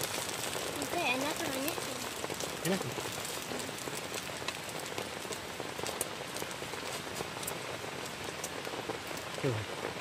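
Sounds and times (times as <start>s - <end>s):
heavy rain on a tent: 0.0s - 10.0s.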